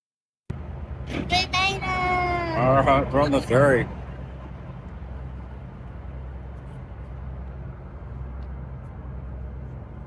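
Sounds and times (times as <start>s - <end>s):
engine humming steadily: 0.5s - 10.0s.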